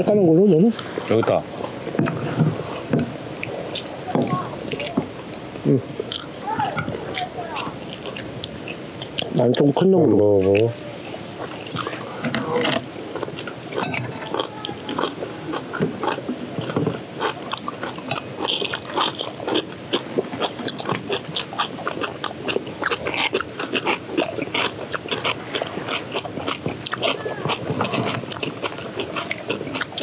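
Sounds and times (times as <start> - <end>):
chewing crunches: 0.8 - 9.8, 10.4 - 30.0.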